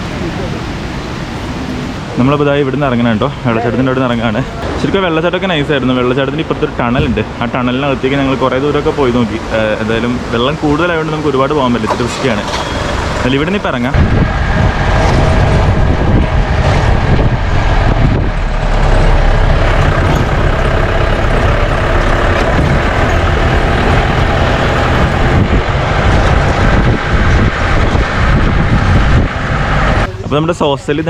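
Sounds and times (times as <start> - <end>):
jeep engine rumbling: 0.0 - 31.0.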